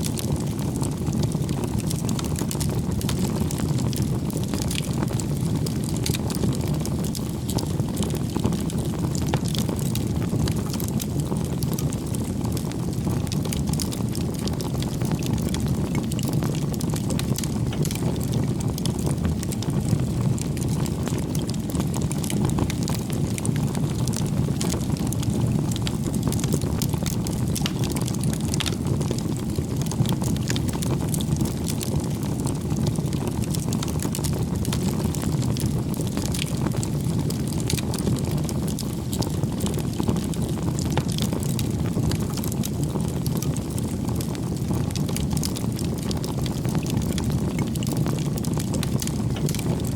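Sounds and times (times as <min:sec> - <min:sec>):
rumble of campfire flames: 0:00.0 - 0:49.9
wood crackling and popping: 0:00.0 - 0:49.9.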